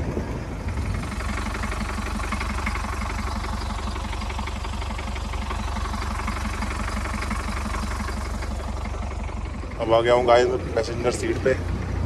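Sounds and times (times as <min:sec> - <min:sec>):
jeep engine idling: 0:00.0 - 0:12.0.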